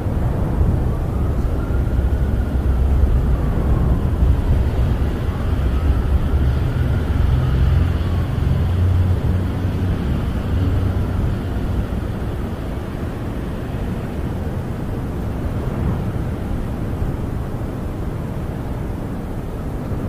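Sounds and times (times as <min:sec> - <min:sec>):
wind buffeting a camper: 0:00.0 - 0:20.0.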